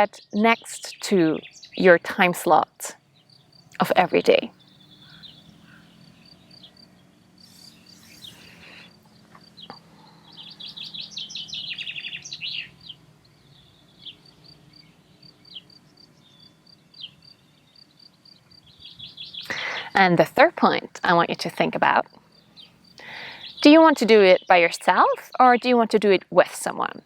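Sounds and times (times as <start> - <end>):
rapid birdsong notes: 0.0 - 27.0
songbirds chirping: 0.0 - 27.0.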